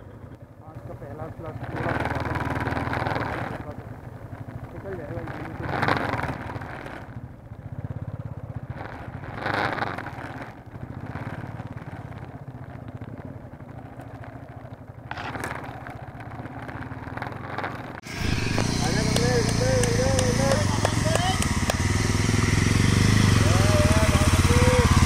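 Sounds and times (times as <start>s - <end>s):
motorcycle engine at low revs: 0.0s - 25.0s.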